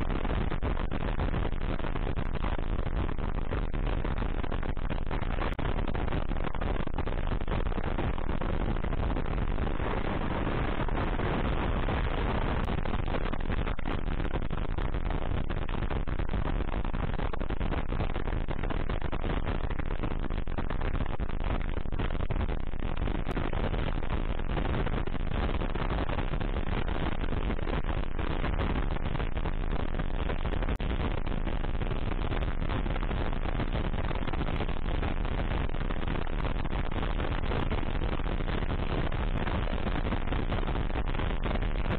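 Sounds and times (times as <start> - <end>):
wind rush: 0.0 - 41.9.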